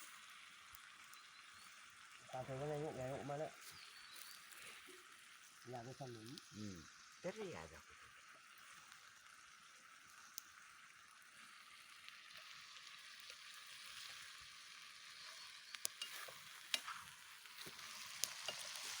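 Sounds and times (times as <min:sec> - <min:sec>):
faint steady hiss: 0:00.0 - 0:19.0
sharp crackles and pops: 0:00.0 - 0:19.0.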